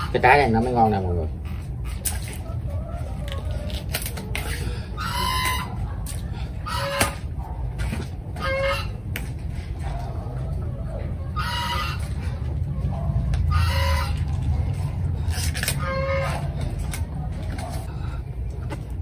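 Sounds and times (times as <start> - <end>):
chickens clucking: 0.0 - 15.1, 15.7 - 17.9
low steady rumble: 1.0 - 19.0.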